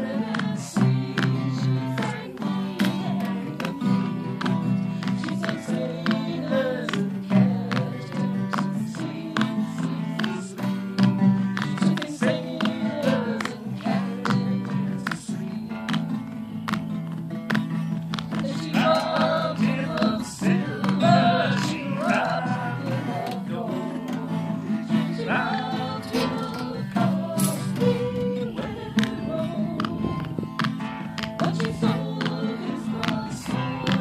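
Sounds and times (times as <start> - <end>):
person singing: 0.0 - 16.3, 18.3 - 30.5, 31.4 - 34.0
strummed acoustic guitar: 0.0 - 34.0.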